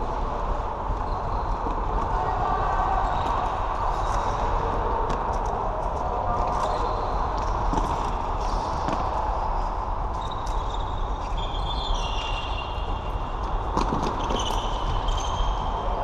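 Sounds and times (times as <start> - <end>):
echoing sports hall noise: 0.0 - 16.0.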